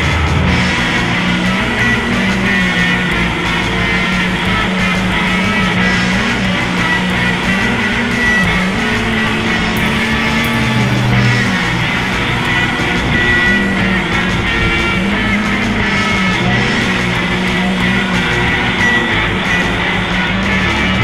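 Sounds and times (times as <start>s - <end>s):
rock music with guitar: 0.0s - 21.0s.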